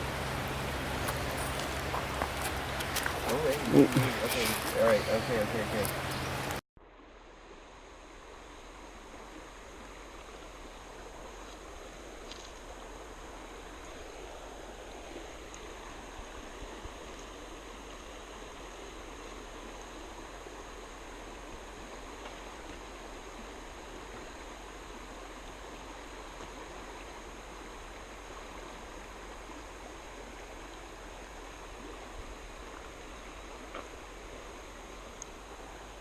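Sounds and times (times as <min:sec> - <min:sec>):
stream water rushing: 0:00.0 - 0:06.6, 0:07.4 - 0:36.0.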